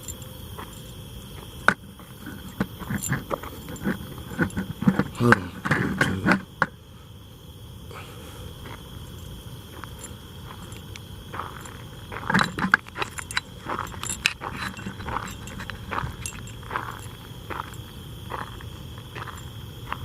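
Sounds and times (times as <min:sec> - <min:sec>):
light clinks and rattles: 0:00.0 - 0:06.6, 0:09.0 - 0:20.0
steady low rumble: 0:00.0 - 0:20.0.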